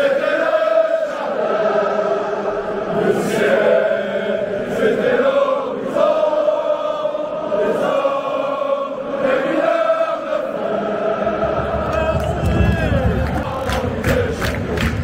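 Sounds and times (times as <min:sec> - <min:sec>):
crowd singing a chant: 0:00.0 - 0:15.0.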